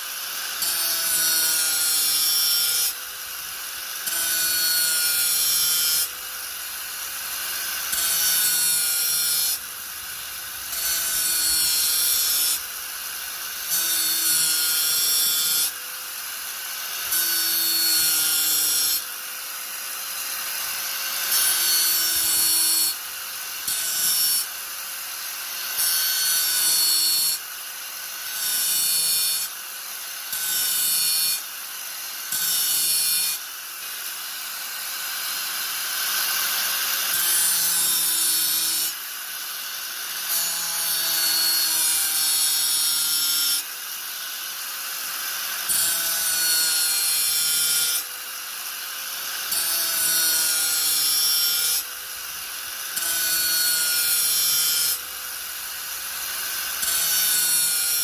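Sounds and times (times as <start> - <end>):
angle grinder grinding: 0.0 - 27.5, 28.2 - 58.0.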